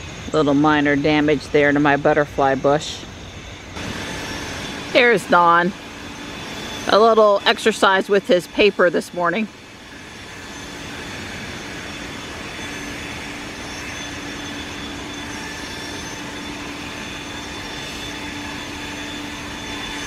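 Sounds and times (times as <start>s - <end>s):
leaf blower air rush: 0.0s - 20.0s.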